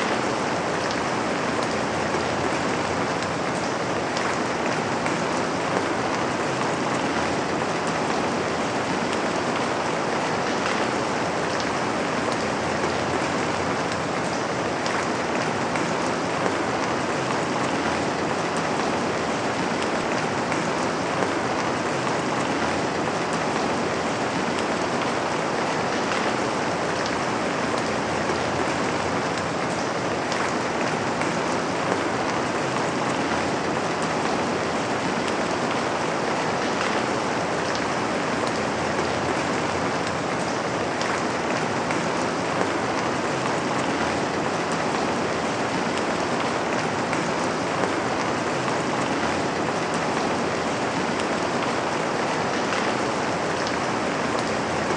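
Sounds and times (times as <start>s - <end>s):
rain on a window: 0.0s - 54.9s.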